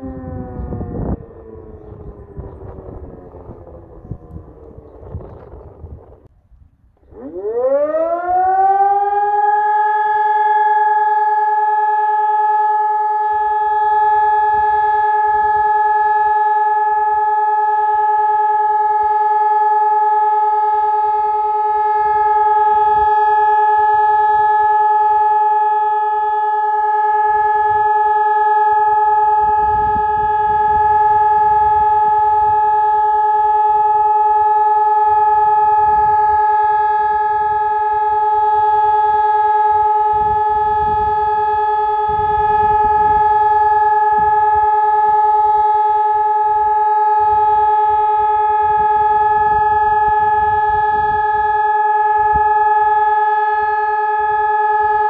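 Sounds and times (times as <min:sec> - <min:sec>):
siren steady tone: 0:00.0 - 0:55.0.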